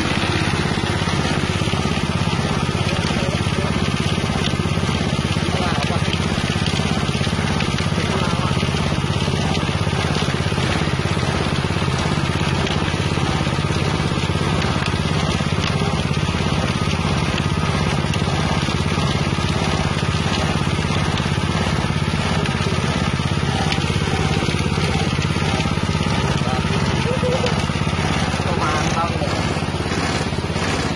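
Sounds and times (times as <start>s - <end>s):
grinding machine engine drone: 0.0s - 30.9s
hiss and rattle of crushed material: 0.0s - 30.9s.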